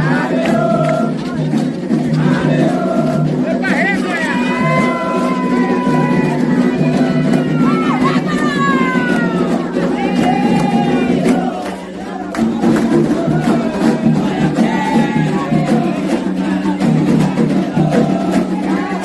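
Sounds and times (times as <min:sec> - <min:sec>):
group singing a chant: 0:00.0 - 0:19.0
percussion beat: 0:00.0 - 0:19.0.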